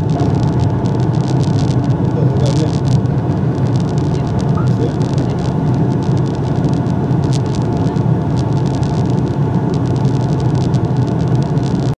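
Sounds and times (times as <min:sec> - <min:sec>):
faint crackling ticks: 0:00.0 - 0:12.0
jet engine drone in cabin: 0:00.0 - 0:12.0.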